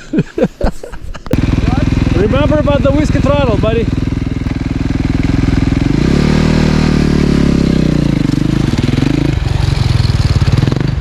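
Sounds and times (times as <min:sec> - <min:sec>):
snow bike engine revving: 0:01.3 - 0:11.0.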